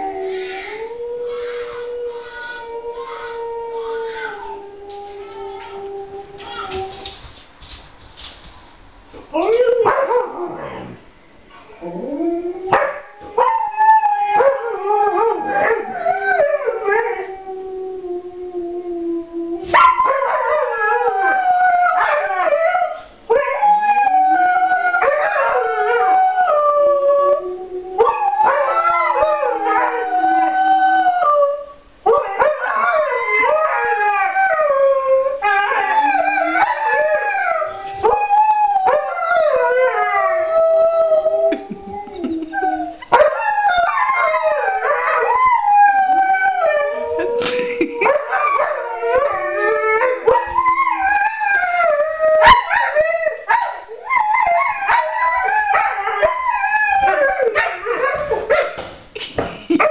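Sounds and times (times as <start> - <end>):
dogs howling together: 9.4 - 11.0, 11.7 - 58.8.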